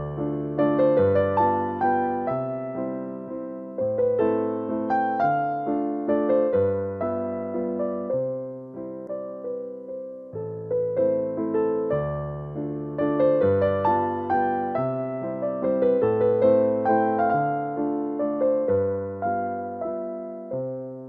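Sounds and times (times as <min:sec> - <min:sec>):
electric piano playing: 0:00.0 - 0:21.0.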